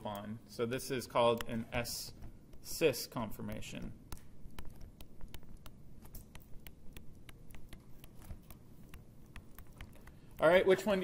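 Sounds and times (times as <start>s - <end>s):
low steady hum: 0.0s - 11.0s
stylus tapping on tablet screen: 1.3s - 10.6s.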